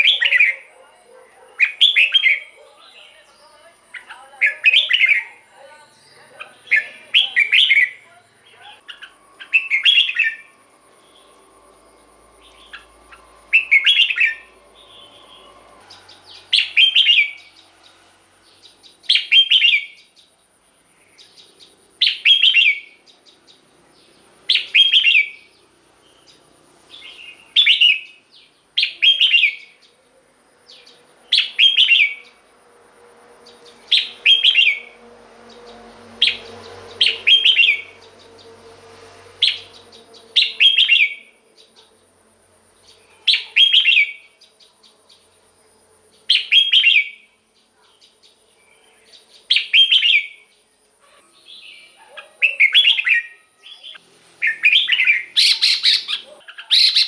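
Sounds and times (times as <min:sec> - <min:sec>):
bird singing warbled phrases: 0:00.0 - 0:20.4, 0:21.0 - 0:32.4, 0:33.4 - 0:38.6, 0:39.4 - 0:42.0, 0:42.7 - 0:45.3, 0:46.1 - 0:57.0.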